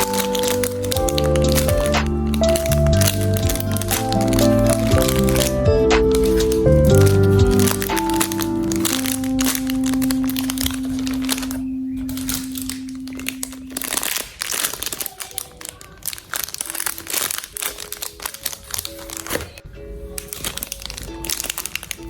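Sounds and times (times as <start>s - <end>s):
background music: 0.0s - 14.7s, 16.5s - 22.0s
plastic packaging crinkling: 0.0s - 22.0s.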